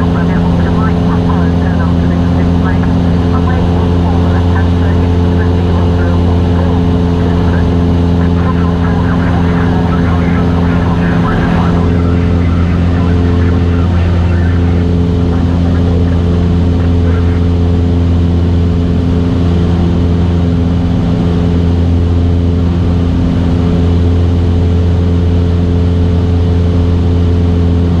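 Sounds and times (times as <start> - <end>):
airplane engine low hum: 0.0 - 28.0.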